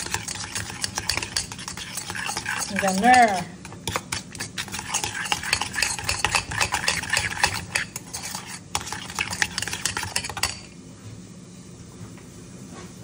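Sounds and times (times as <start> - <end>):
spoon beating egg in metal bowl: 0.0 - 10.8.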